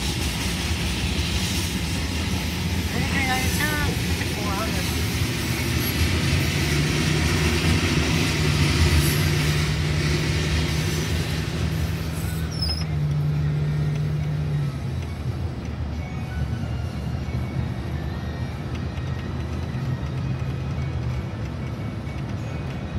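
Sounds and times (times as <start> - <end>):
car engine and road noise: 0.0 - 22.9.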